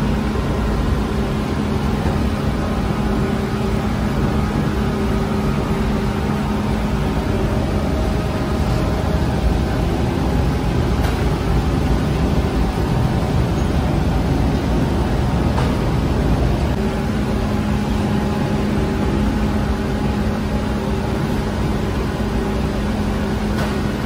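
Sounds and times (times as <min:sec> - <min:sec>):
bakery machinery humming: 0:00.0 - 0:24.0.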